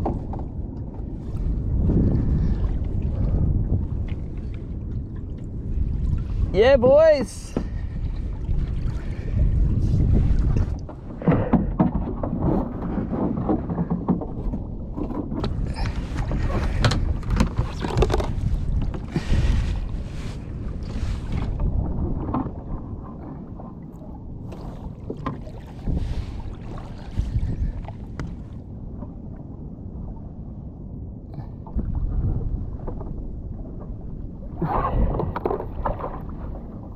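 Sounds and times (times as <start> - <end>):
water sloshing and splashing: 0.0 - 30.5, 31.4 - 36.9
wind buffeting microphone: 0.0 - 36.9.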